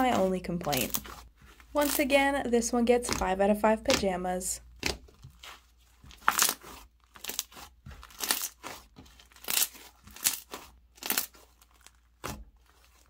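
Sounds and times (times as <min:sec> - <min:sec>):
slime popping and crackling: 0:00.0 - 0:02.2, 0:02.9 - 0:13.0.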